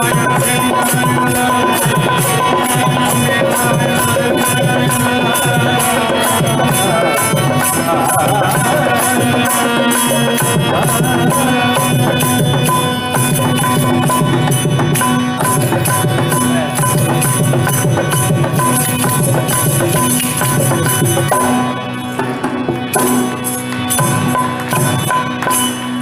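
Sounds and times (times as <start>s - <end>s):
devotional music ensemble: 0.0s - 26.0s
harmonium: 0.0s - 26.0s
mridangam drum: 0.0s - 26.0s.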